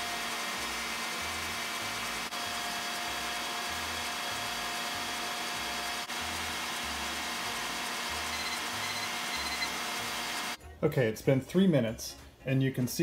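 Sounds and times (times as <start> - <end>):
stand mixer motor whining: 0.0 - 10.6.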